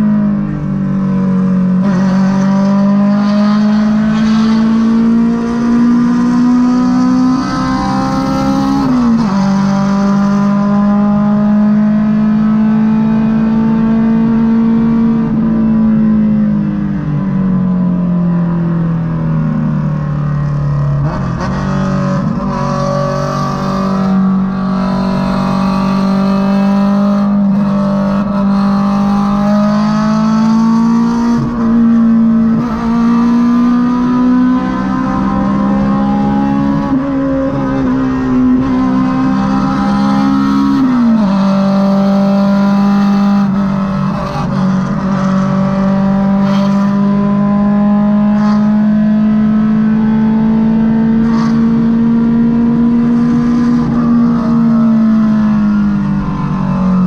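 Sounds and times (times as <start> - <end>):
car engine at highway speed: 0.0 - 57.0
road noise: 0.0 - 57.0.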